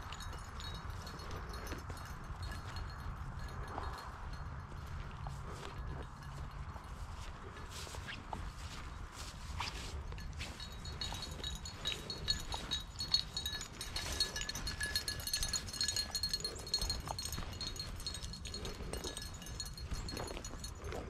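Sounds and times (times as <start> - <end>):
dog collar metallic clinking: 0.0 - 7.0, 10.1 - 21.0
steady low rumble: 0.0 - 21.0.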